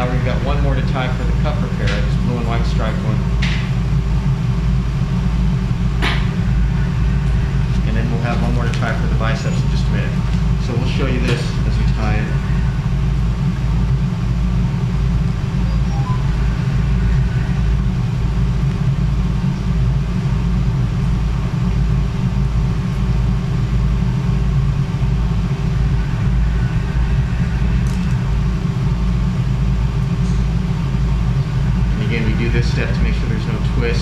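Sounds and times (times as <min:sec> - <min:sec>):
machinery humming and rumbling: 0:00.0 - 0:34.0.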